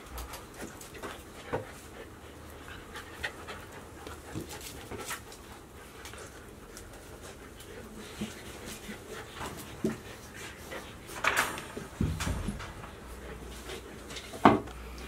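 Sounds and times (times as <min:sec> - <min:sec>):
puppies panting: 0:00.0 - 0:11.3, 0:12.2 - 0:14.4.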